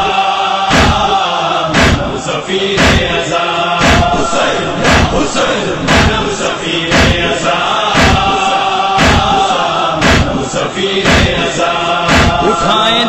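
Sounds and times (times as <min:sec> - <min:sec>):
men chanting in chorus: 0:00.0 - 0:13.0
chest-beating strikes: 0:00.7 - 0:02.2, 0:02.8 - 0:03.2, 0:03.8 - 0:11.5, 0:12.1 - 0:13.0.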